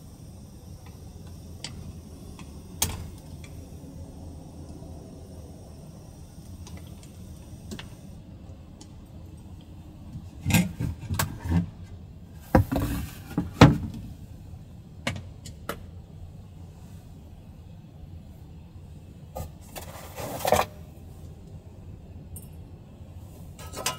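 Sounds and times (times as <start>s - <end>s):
low steady background noise: 0.0s - 23.9s.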